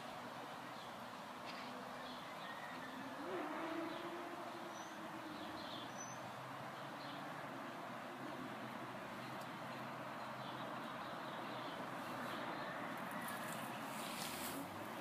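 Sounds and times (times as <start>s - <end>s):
steady background noise: 0.0s - 15.0s
small birds chirping: 0.6s - 15.0s.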